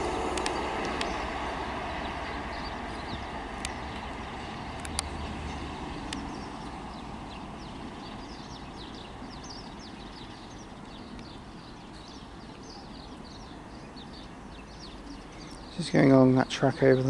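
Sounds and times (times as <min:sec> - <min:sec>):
birds chirping: 0:00.0 - 0:17.0
diesel train rumble: 0:00.0 - 0:17.0.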